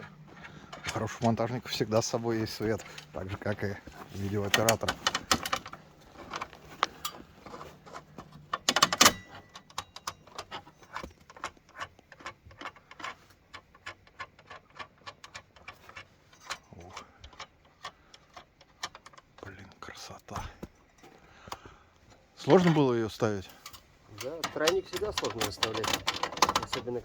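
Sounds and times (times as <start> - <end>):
light clicks and knocks: 0.0 - 27.0.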